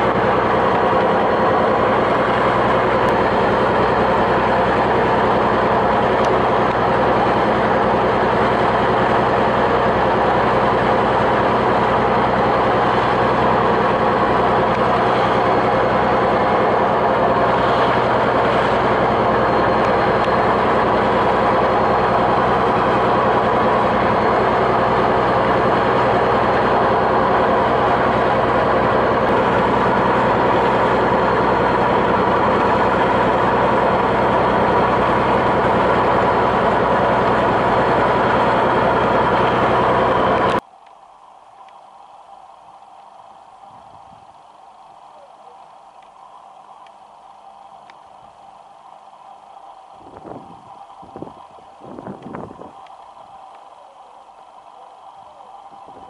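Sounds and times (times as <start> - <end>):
boat diesel engine droning: 0.0 - 56.0.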